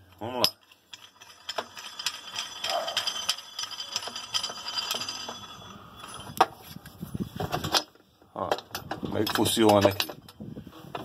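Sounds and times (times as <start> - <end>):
metal parts clinking: 0.0 - 6.8, 7.4 - 10.4.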